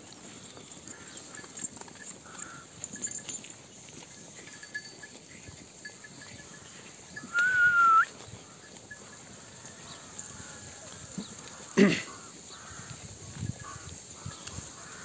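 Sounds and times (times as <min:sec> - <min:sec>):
faint yard background: 0:00.0 - 0:15.0.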